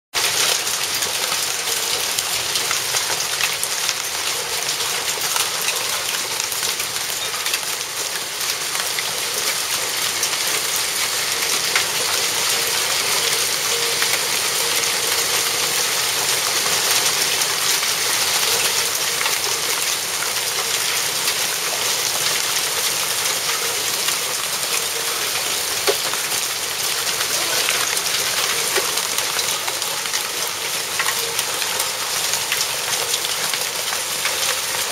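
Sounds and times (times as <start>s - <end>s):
hail pattering on leaves: 0.1s - 34.9s
pouring rain: 0.1s - 34.9s.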